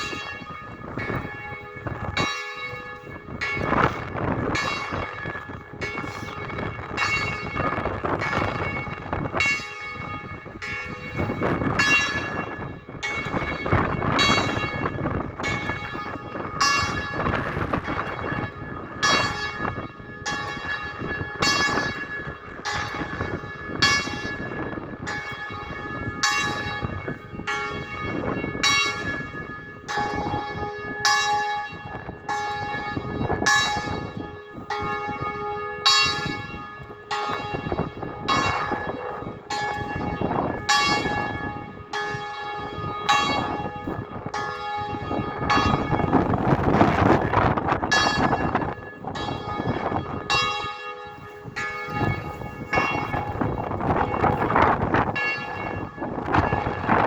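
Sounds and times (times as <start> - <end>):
church bells ringing: 0.0 - 57.0
wind rumble on microphone: 0.0 - 57.0.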